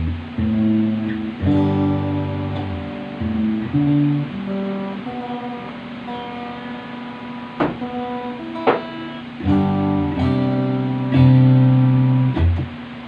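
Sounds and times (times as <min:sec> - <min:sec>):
electric guitar notes and chords: 0:00.0 - 0:13.0.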